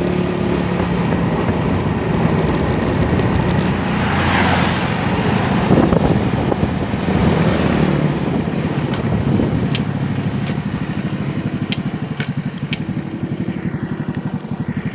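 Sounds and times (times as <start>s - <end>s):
motorcycle engine running: 0.0s - 14.9s
wind buffeting microphone: 0.0s - 14.9s.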